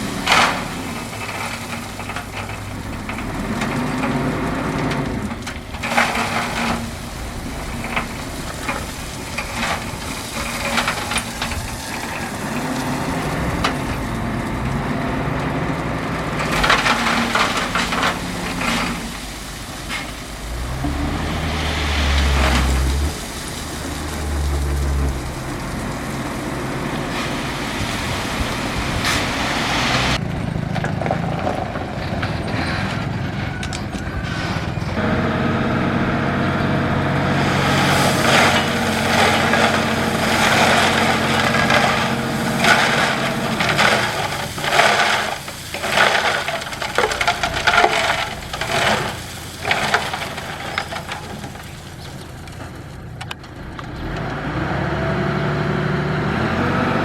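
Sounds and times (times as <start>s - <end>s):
gravel crunching and knocking: 0.0s - 54.6s
diesel engine under load: 0.0s - 57.0s.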